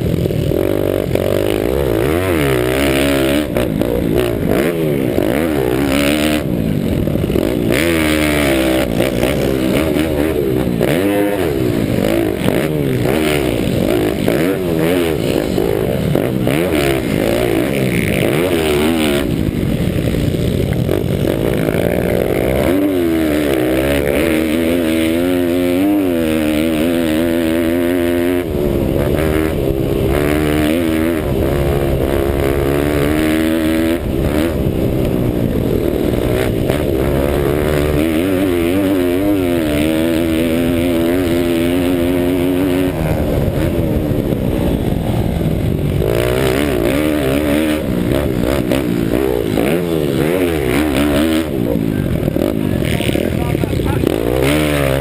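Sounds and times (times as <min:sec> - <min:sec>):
pit bike engine revving: 0:00.0 - 0:55.0.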